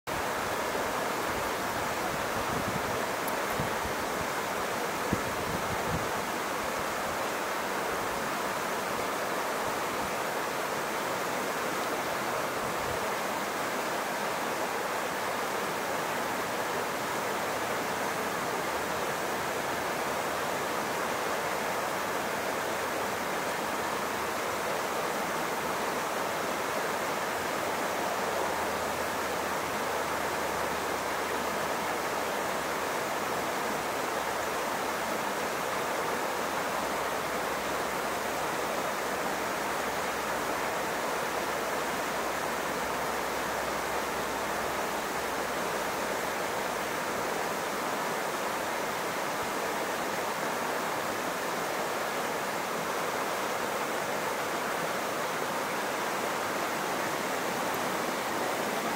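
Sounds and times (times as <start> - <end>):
creek running over rocks: 0.1 - 58.9.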